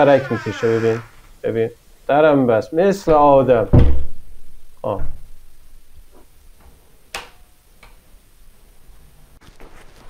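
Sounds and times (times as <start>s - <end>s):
low background hiss: 0.0s - 9.4s.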